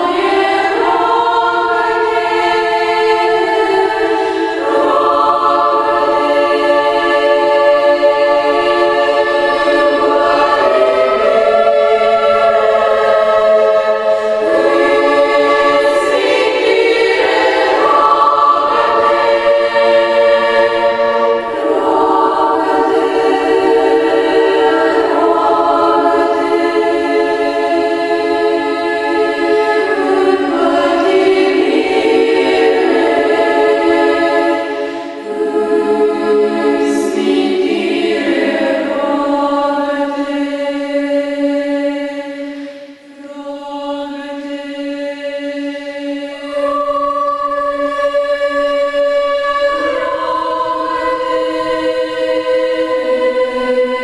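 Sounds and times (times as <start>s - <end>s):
female choir singing chant: 0.0s - 54.0s.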